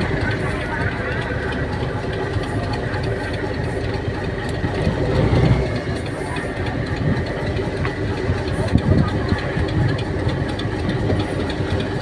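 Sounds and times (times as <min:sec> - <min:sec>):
boat diesel engine idling: 0:00.0 - 0:12.0.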